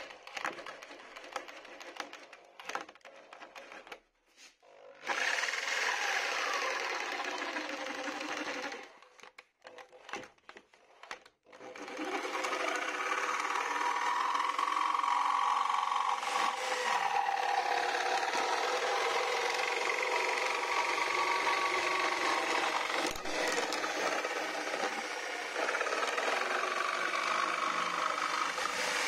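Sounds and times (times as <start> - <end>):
small power tool cutting plastic: 0.0 - 29.0.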